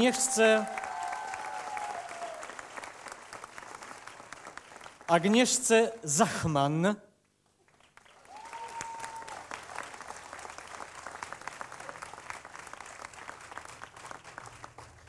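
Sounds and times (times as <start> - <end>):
audience applauding: 0.0 - 5.6, 7.6 - 15.0.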